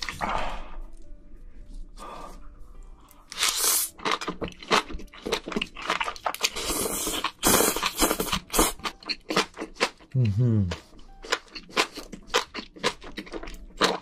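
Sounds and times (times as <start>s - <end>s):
crunching and chewing food: 2.2s - 14.0s.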